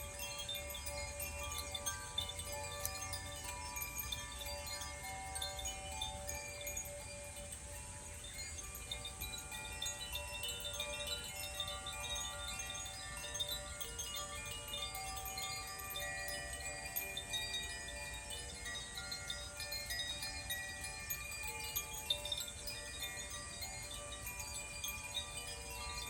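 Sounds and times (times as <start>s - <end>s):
wind chimes ringing: 0.0s - 26.0s.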